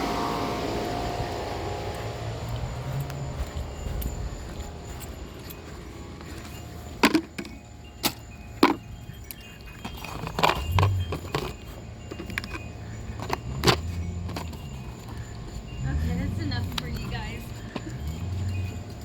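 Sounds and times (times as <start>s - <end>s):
low background rumble: 0.0s - 19.0s
small hard objects clinking: 0.8s - 19.0s.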